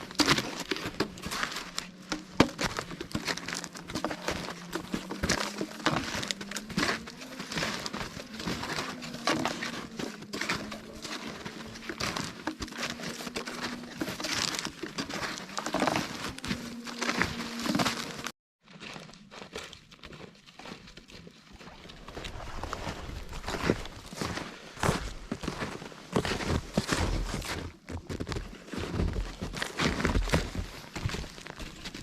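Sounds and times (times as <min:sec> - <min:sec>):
snowshoes crunching through snow: 0:00.0 - 0:32.0.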